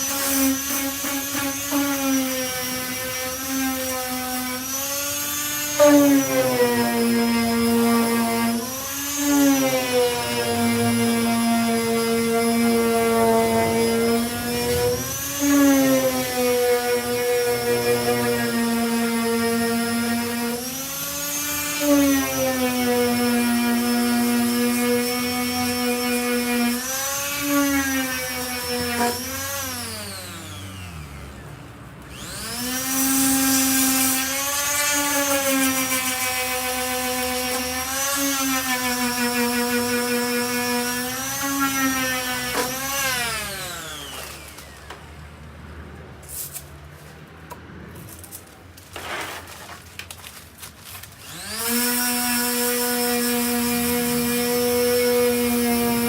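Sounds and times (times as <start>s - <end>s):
electric sander motor whine: 0.0s - 35.2s, 36.6s - 45.2s, 51.2s - 56.0s.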